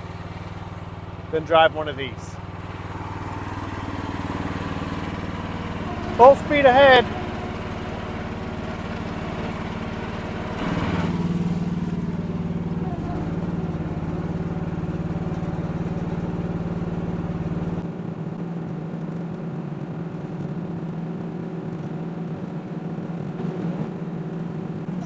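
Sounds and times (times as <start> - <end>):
small engine running steadily: 0.0 - 25.0.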